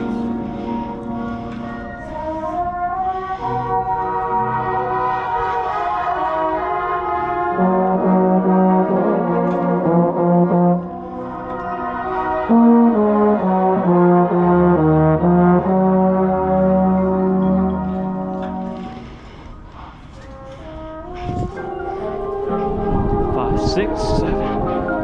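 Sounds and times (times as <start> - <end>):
low brass line: 0.0 - 25.0
marching band brass chords: 0.0 - 25.0.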